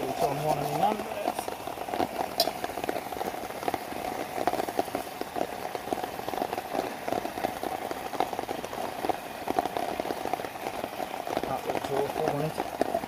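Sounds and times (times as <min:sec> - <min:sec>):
heavy rain pattering: 0:00.0 - 0:13.0.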